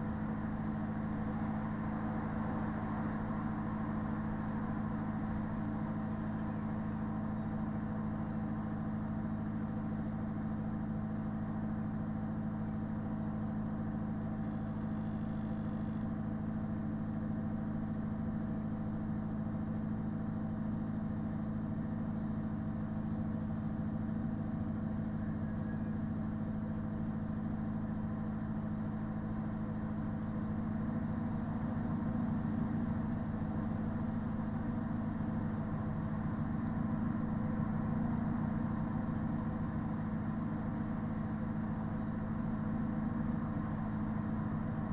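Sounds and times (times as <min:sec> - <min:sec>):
lorry engine idling: 0:00.0 - 0:44.9
refrigeration unit humming: 0:00.0 - 0:44.9.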